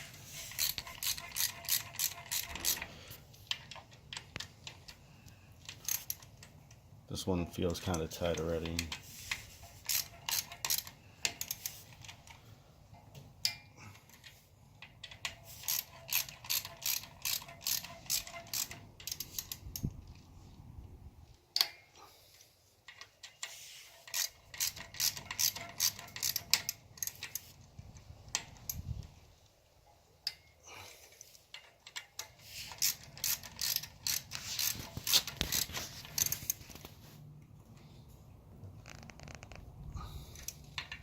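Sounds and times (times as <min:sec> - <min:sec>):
hand ratchet clicking: 0:00.0 - 0:06.8, 0:07.9 - 0:12.5, 0:13.4 - 0:20.0, 0:22.8 - 0:28.9, 0:30.2 - 0:36.9, 0:38.8 - 0:41.0.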